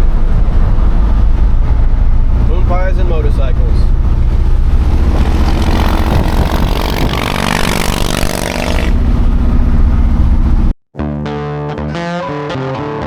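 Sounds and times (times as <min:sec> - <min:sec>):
vehicle engine revving: 0:00.0 - 0:10.8.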